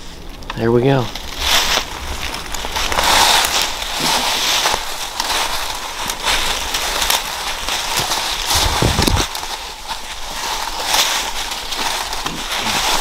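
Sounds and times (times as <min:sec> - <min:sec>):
footsteps crunching through dry leaves: 0:00.0 - 0:13.0
twigs and brush crackling: 0:00.0 - 0:13.0.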